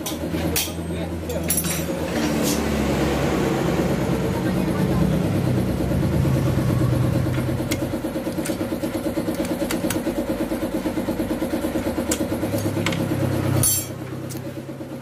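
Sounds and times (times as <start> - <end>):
small engine idling: 2.8 - 15.0.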